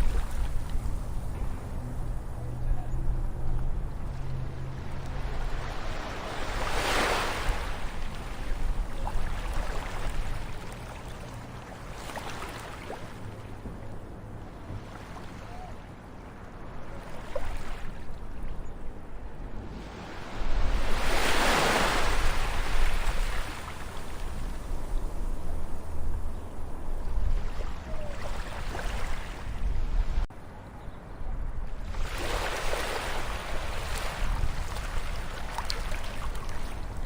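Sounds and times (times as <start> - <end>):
ocean waves breaking: 0.0 - 30.3, 31.7 - 37.0.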